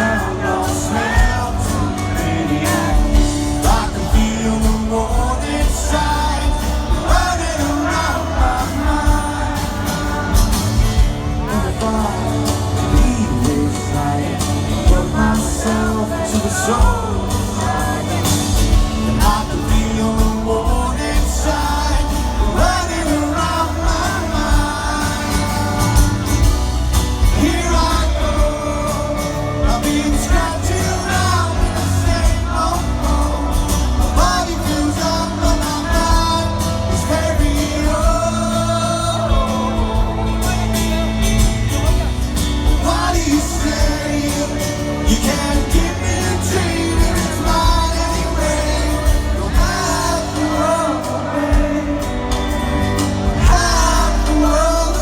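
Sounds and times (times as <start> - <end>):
live rock band: 0.0 - 55.0
person singing lead vocal: 0.0 - 55.0
steady bass: 0.0 - 55.0.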